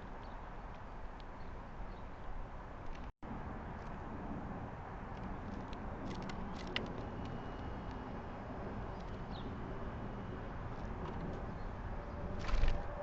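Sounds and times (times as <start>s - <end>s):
distant road traffic rumble: 0.0s - 13.0s.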